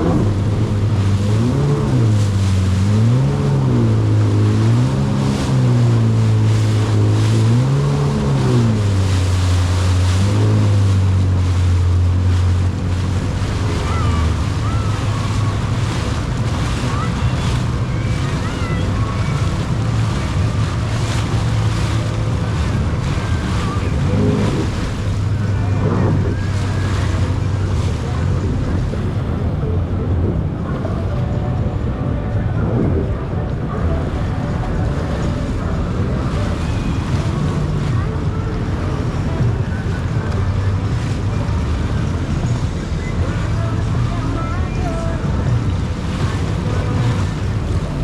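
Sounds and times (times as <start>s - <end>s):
jet ski engine running: 0.0s - 48.0s
water rushing: 0.0s - 48.0s
wind buffeting microphone: 0.0s - 48.0s.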